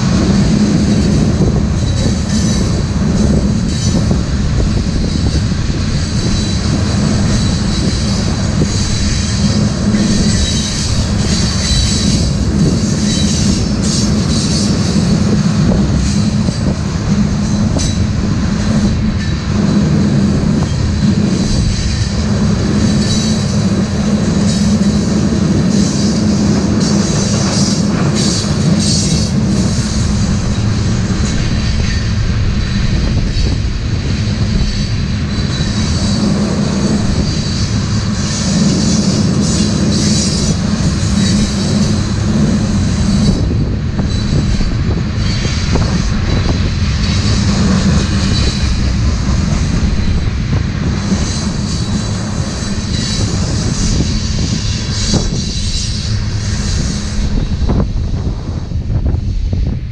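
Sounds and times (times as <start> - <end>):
rumble of steel wheels on rail: 0.0 - 59.9
high wheel squeal: 0.3 - 18.1, 19.1 - 33.6, 34.2 - 57.8.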